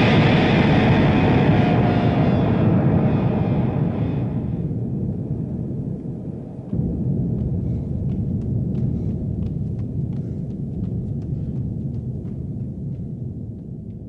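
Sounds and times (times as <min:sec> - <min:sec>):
deep steady rumble: 0:00.0 - 0:14.0.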